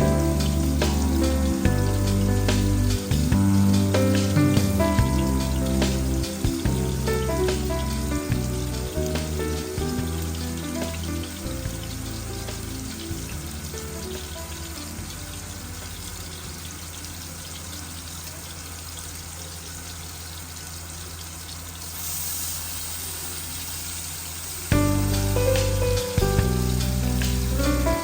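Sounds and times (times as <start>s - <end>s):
quiet background music: 0.0s - 21.2s, 24.7s - 28.0s
food sizzling in a hot pan: 0.0s - 28.0s.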